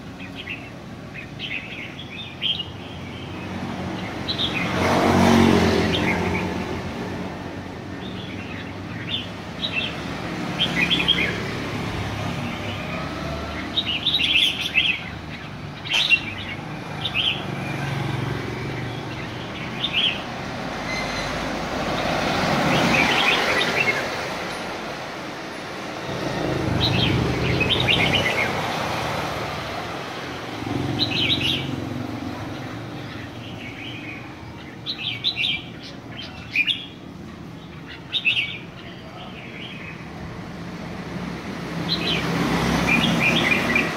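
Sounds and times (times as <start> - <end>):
birds chirping: 0.0 - 43.9
passing traffic: 0.0 - 43.9.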